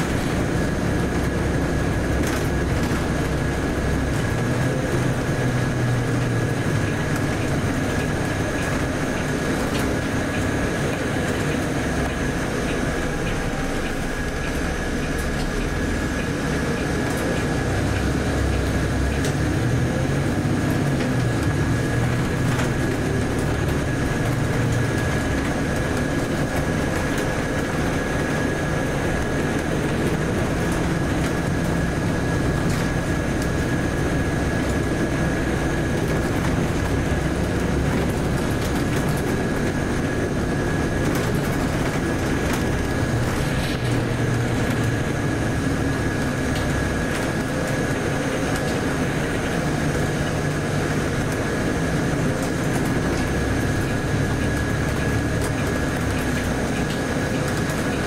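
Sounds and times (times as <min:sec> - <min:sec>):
bus diesel engine: 0:00.0 - 0:58.0
road rumble: 0:00.0 - 0:58.0.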